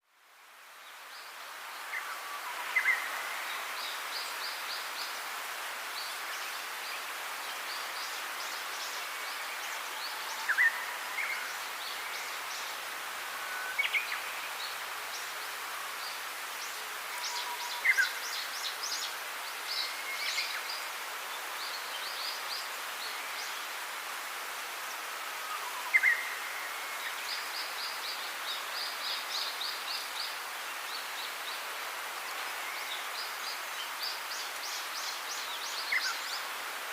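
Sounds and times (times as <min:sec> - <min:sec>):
outdoor background hiss: 0:00.0 - 0:36.9.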